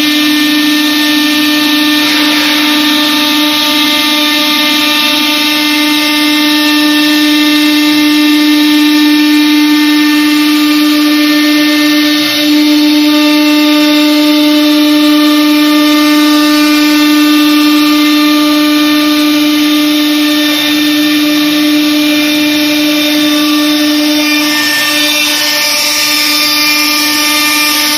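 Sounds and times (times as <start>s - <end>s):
router spindle whining: 0.0s - 27.9s.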